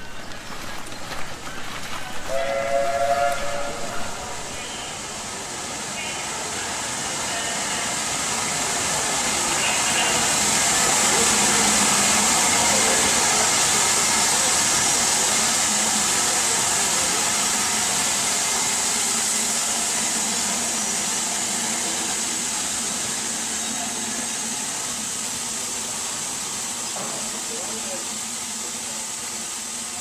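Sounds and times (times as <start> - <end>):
steam train hiss and rumble: 0.0 - 30.0.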